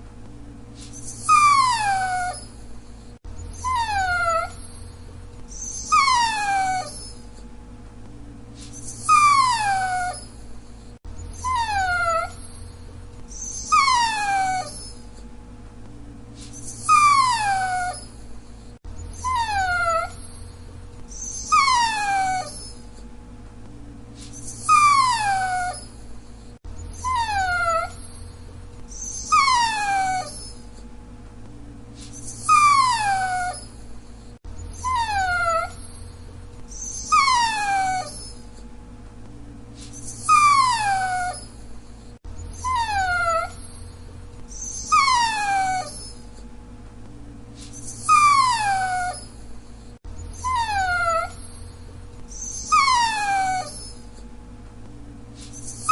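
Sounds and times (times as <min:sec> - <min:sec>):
dog whining: 0:00.8 - 0:07.5, 0:08.6 - 0:15.3, 0:16.4 - 0:23.1, 0:24.2 - 0:30.9, 0:32.0 - 0:38.7, 0:39.8 - 0:46.5, 0:47.6 - 0:54.3, 0:55.4 - 0:55.9.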